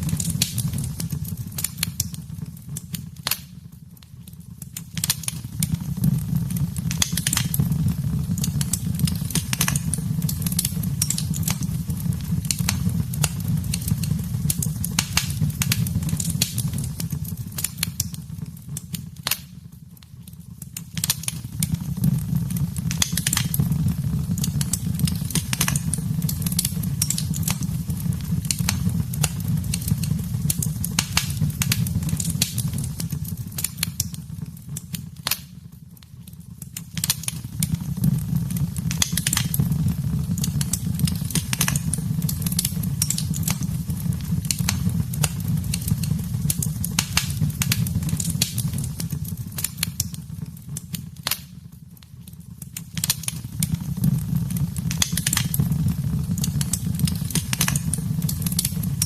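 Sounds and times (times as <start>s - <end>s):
wood fire crackling: 0.0s - 59.0s
steady low rumble: 5.4s - 20.7s, 21.4s - 36.7s, 37.4s - 51.9s, 53.4s - 59.0s.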